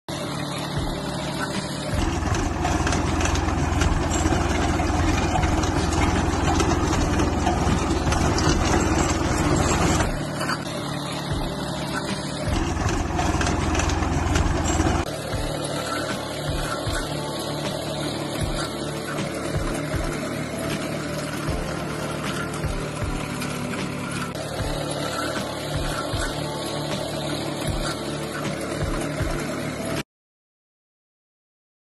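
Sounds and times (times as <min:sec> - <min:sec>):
tractor engine running: 0:00.1 - 0:30.0.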